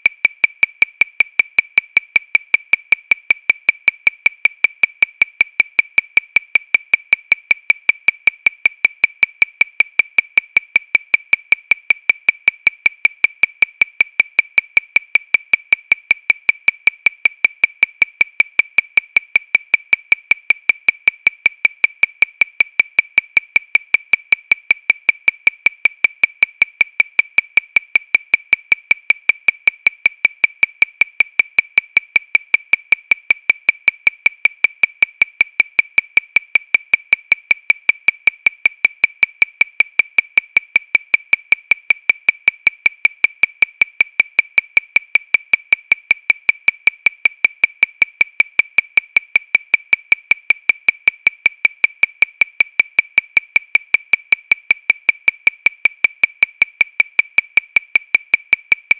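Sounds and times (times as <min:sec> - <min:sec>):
metronome clicking fast: 0:00.0 - 0:58.9.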